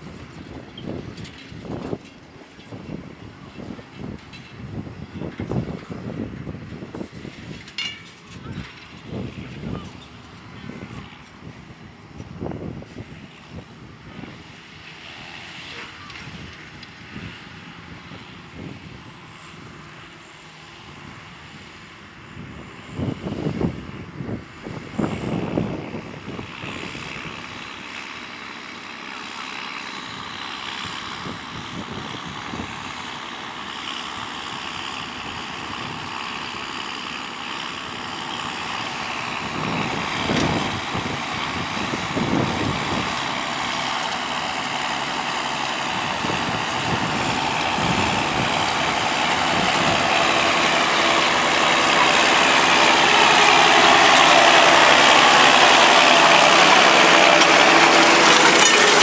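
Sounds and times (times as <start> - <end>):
tractor engines: 0.0 - 59.0.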